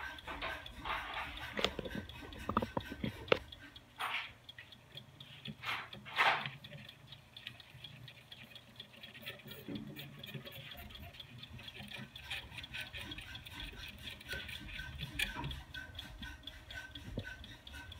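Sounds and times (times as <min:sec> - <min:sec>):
gear cutter fine ticks: 0:00.0 - 0:17.9.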